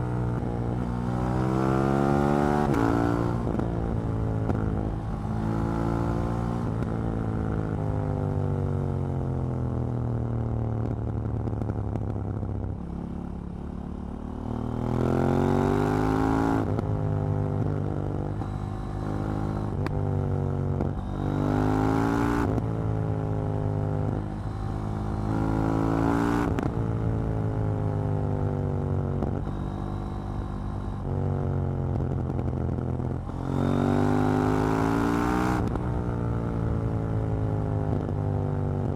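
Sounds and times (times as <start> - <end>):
motorcycle engine revving: 0.0 - 8.3, 11.7 - 38.9.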